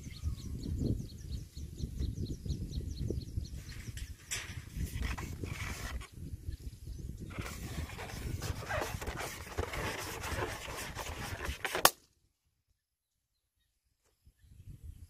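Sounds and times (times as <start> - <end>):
wind rumbling on microphone: 0.0 - 11.8, 14.2 - 15.0.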